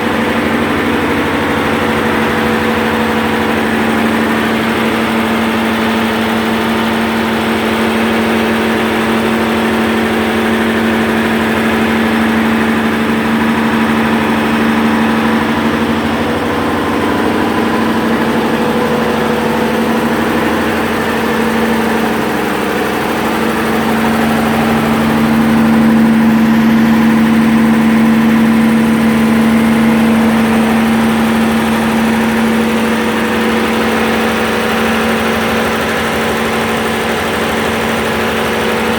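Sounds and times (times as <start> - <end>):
gas engine humming: 0.0 - 38.9.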